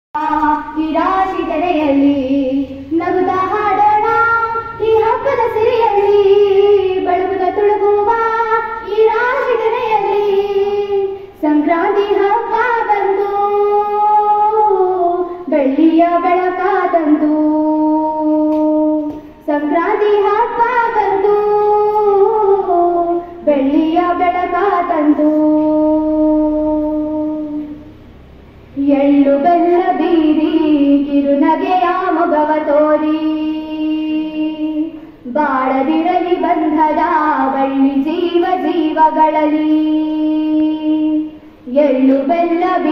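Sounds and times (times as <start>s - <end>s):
girls singing together: 0.2s - 27.8s, 28.8s - 42.9s.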